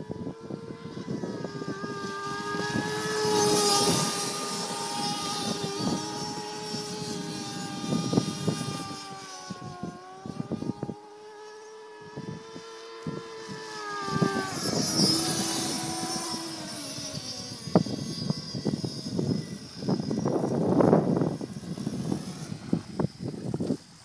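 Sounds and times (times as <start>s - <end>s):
model boat engine buzzing: 0.0s - 24.0s.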